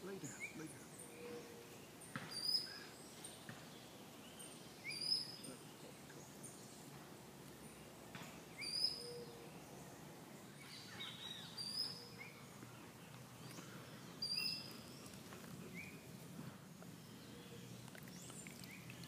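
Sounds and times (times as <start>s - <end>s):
bird singing: 0.0s - 16.2s, 16.8s - 19.0s
steady background noise: 0.0s - 19.0s.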